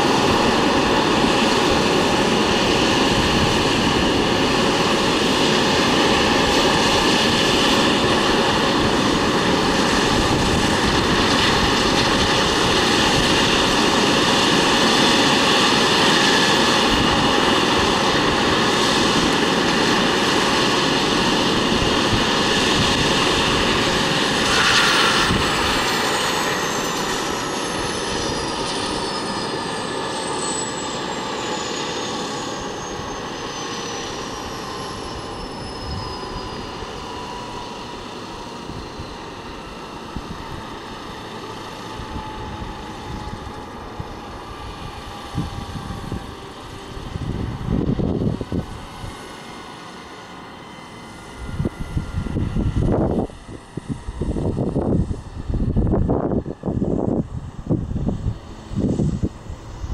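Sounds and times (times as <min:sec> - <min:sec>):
helicopter turbine whine: 0:00.0 - 0:59.9.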